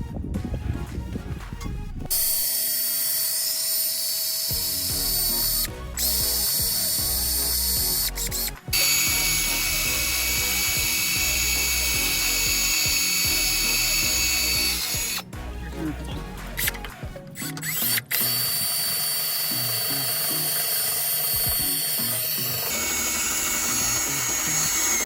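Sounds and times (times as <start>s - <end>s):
power tool motor whining: 2.1s - 15.3s, 17.4s - 25.0s.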